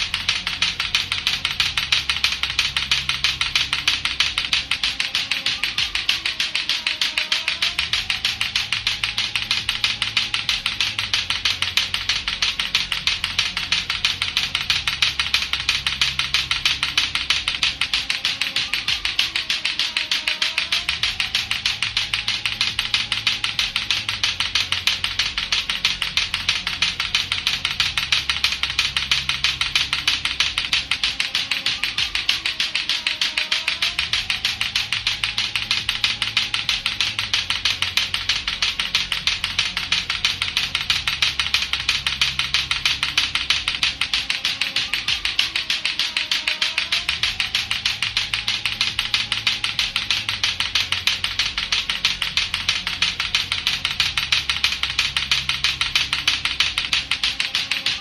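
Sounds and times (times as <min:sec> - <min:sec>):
clacker toy balls clacking: 0:00.0 - 0:58.0
faint looping low background: 0:00.0 - 0:58.0.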